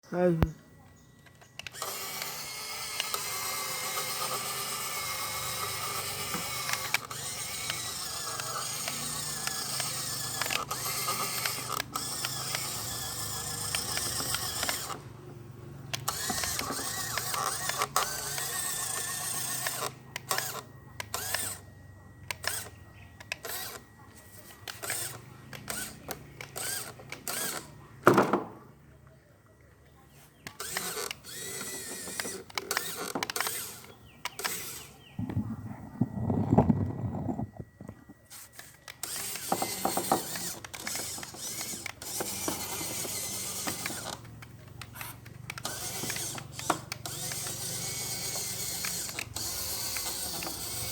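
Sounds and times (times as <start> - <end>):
small gear motors whirring: 0.2 - 27.9, 30.0 - 50.9.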